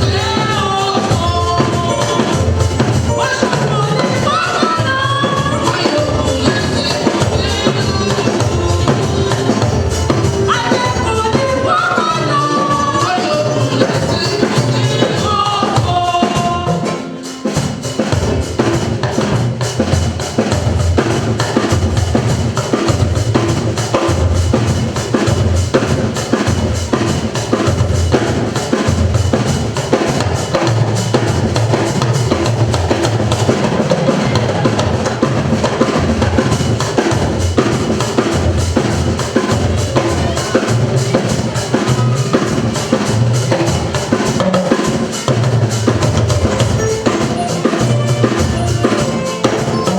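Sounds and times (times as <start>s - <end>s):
drum kit playing fast beat: 0.0s - 49.9s.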